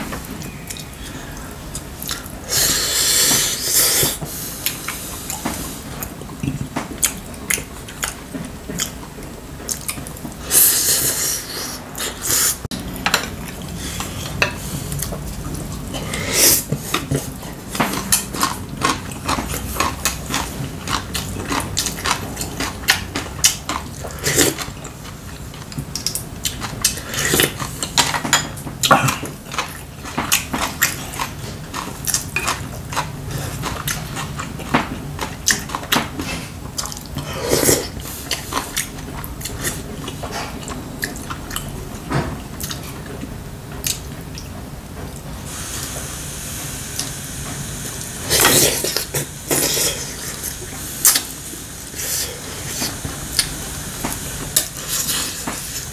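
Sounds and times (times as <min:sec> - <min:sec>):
man chewing food: 0:00.0 - 0:55.9.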